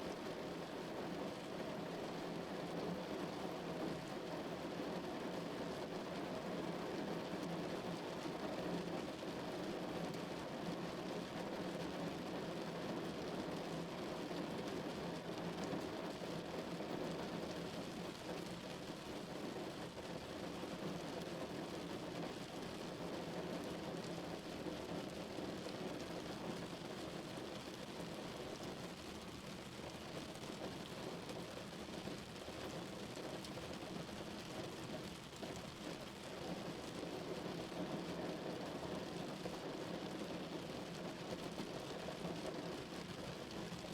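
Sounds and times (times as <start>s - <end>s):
rain drumming on car roof: 0.1s - 43.9s.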